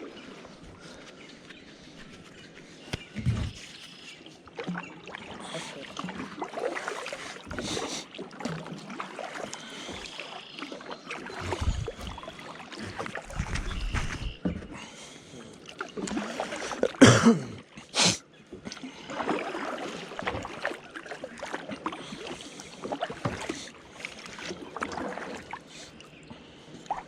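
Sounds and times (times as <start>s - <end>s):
paddle splashing in water: 0.0s - 27.0s.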